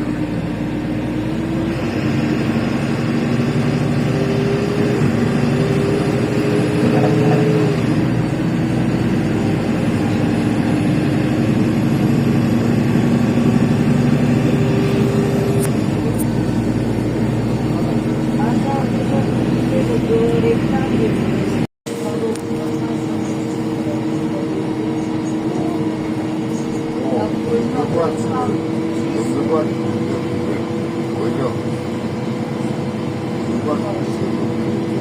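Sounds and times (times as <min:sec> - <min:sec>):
bus engine with gear changes: 0:00.0 - 0:35.0.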